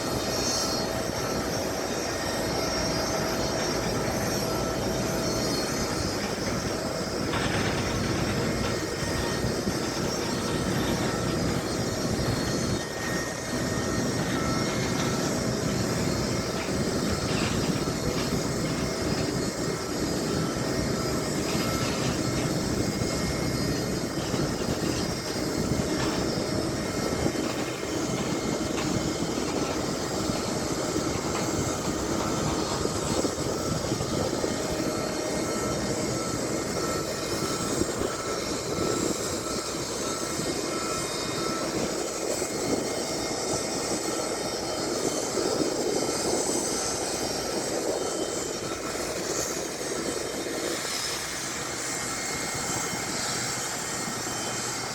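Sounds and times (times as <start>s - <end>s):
aircraft rushing hum: 0.0s - 54.9s
faint whining tones: 0.0s - 54.9s.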